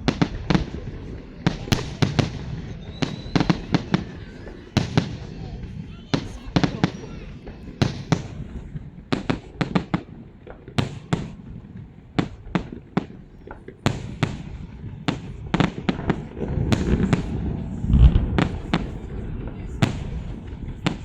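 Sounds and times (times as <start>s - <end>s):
fireworks bangs: 0.0s - 21.0s
low rumble of echoing reports: 0.0s - 21.0s.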